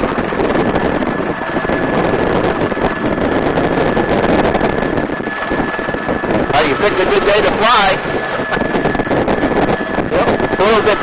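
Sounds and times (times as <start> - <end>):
helicopter rotor and engine: 0.0 - 11.0
high whine: 0.0 - 11.0
wind buffeting microphone: 0.0 - 11.0.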